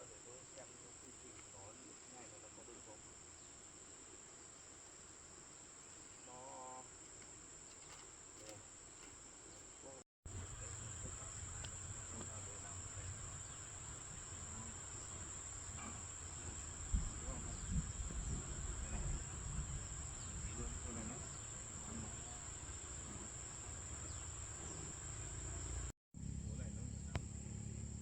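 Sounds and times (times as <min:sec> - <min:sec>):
insects shrilling: 0:00.0 - 0:25.9.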